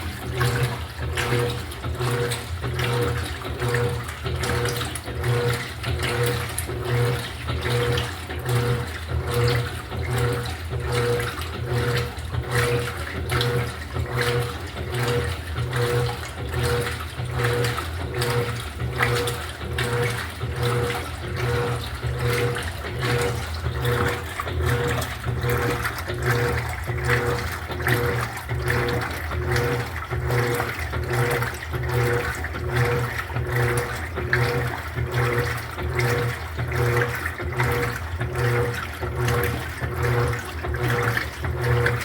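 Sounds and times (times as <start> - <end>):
washing machine pulsing hum: 0.0 - 42.0
water sloshing in tub: 0.0 - 42.0.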